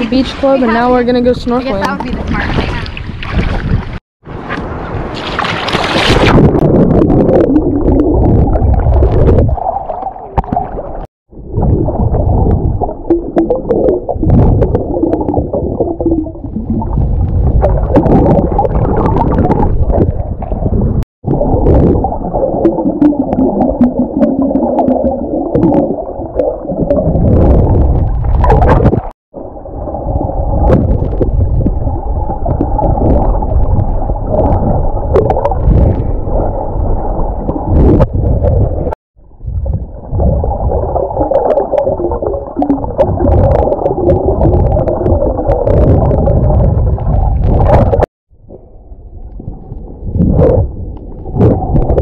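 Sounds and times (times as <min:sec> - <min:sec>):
underwater rumbling and gurgling: 0:00.0 - 0:52.0.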